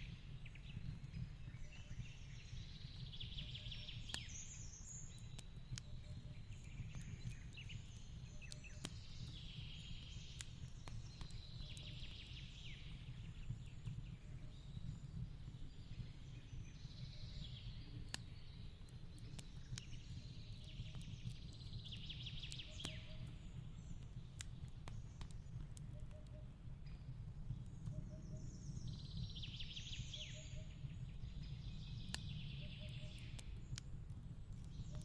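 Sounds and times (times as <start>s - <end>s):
fireplace crackling and popping: 0.0s - 35.0s.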